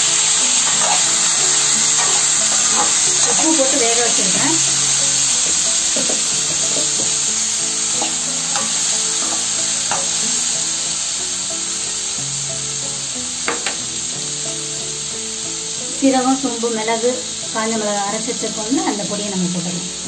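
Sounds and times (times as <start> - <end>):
chickpeas sizzling in hot oil: 0.0 - 20.0.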